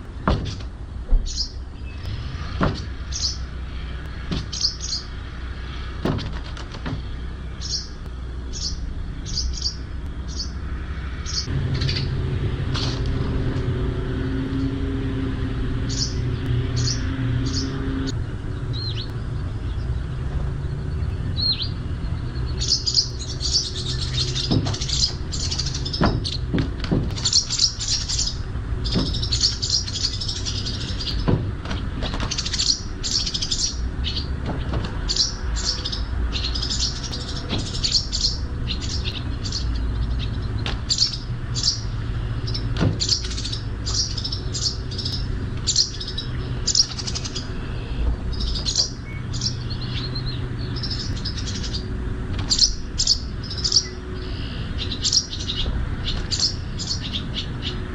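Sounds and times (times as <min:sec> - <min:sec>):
motor-like hum: 0:00.0 - 0:57.9
small birds chirping: 0:00.0 - 0:57.9
steady low rumble: 0:00.0 - 0:57.9.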